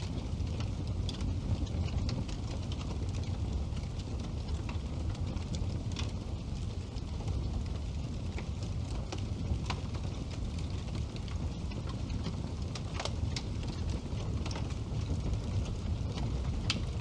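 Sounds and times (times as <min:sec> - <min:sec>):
fire crackles and pops: 0:00.0 - 0:17.0
fire flames rumbling: 0:00.0 - 0:17.0.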